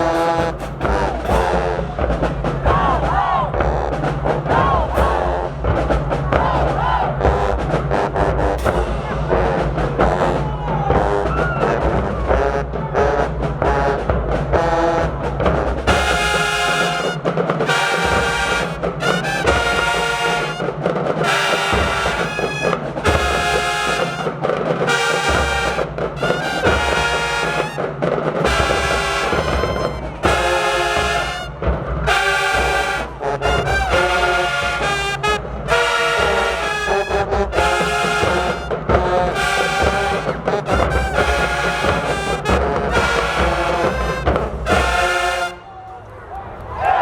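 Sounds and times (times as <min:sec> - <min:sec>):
brass section playing chords: 0:00.0 - 0:02.6, 0:07.2 - 0:12.8, 0:15.9 - 0:45.7
marching band drums: 0:00.0 - 0:45.7.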